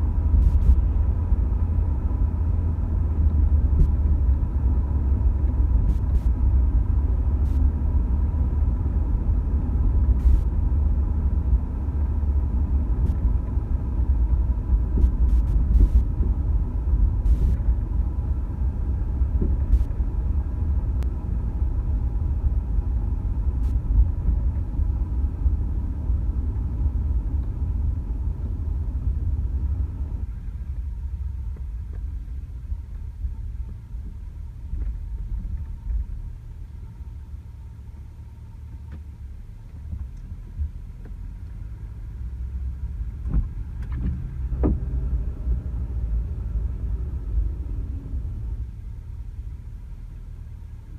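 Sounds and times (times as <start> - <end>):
car driving rumble: 0.0 - 50.9.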